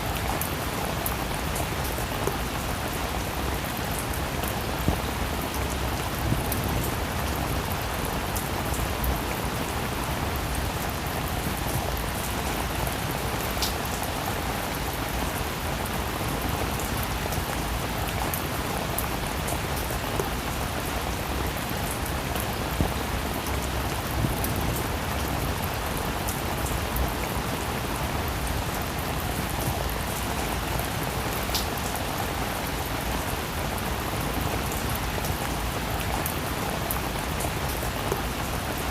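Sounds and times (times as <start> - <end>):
raindrops ticking on a surface: 0.0 - 38.9
steady rain hiss: 0.0 - 38.9.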